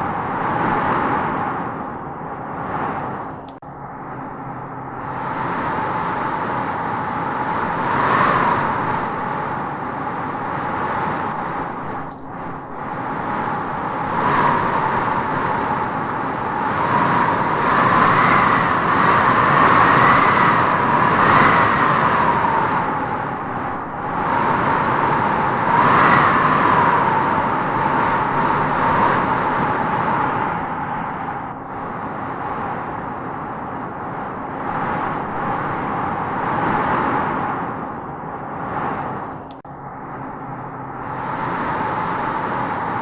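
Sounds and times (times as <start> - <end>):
wind howling in gusts: 0.0 - 43.0.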